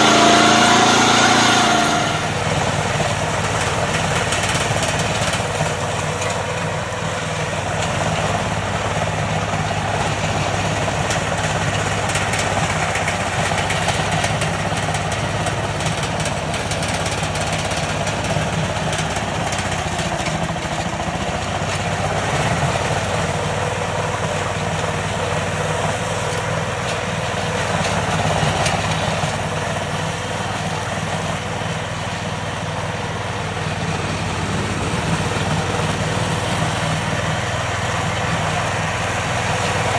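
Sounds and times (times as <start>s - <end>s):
ride-on mower engine running: 0.0s - 39.9s.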